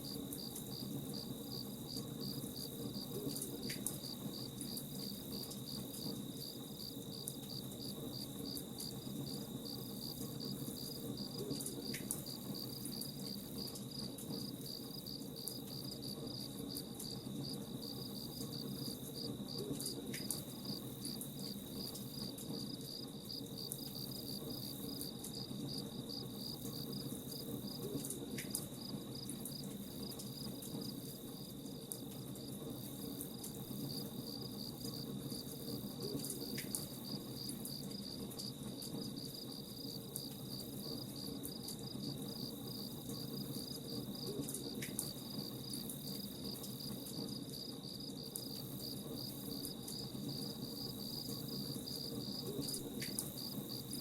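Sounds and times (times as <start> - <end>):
campfire crackles: 0.0 - 54.0
crickets chirping: 0.0 - 54.0.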